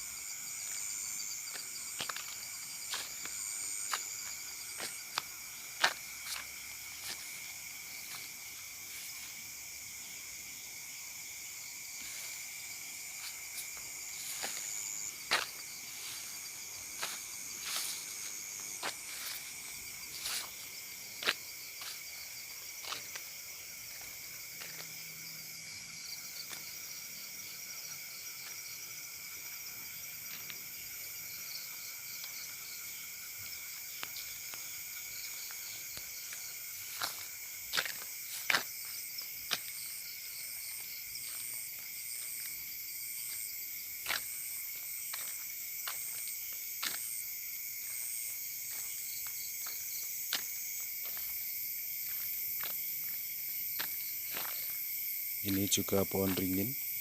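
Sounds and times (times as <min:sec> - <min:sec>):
cricket chirping in pulses: 0:00.0 - 0:57.0
insects trilling: 0:00.0 - 0:57.0.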